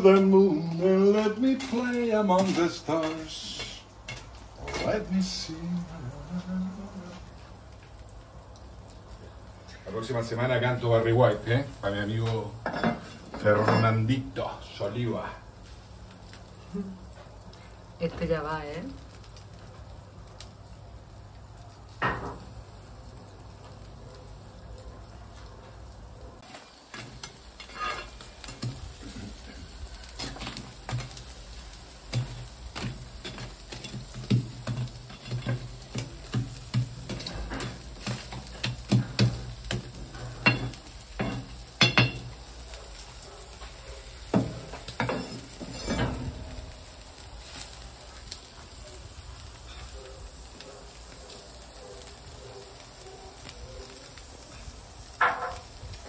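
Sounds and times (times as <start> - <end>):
embers crackling and popping: 0.0 - 56.0
meat sizzling on a grill: 0.0 - 56.0.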